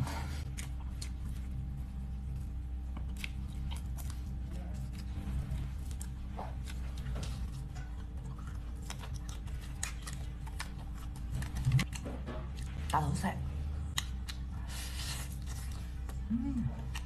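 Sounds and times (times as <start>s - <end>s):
steady low hum: 0.0s - 17.0s
crunchy chewing: 0.1s - 12.9s, 13.8s - 17.0s.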